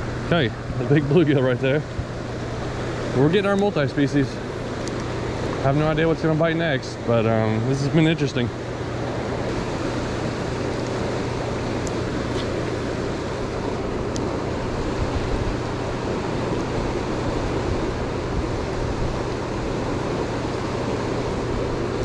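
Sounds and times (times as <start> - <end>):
constant low hum: 0.0 - 22.0
turbulent water rushing: 0.0 - 22.0.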